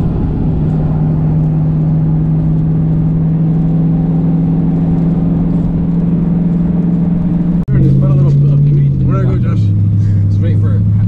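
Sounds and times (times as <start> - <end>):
car engine droning: 0.0 - 11.0
tyre and road rumble: 0.0 - 11.0.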